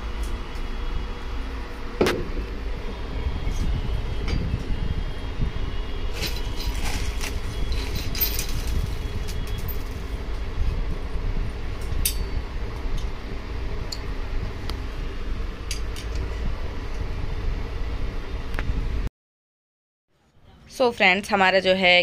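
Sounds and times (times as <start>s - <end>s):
steady low rumble: 0.0s - 19.1s.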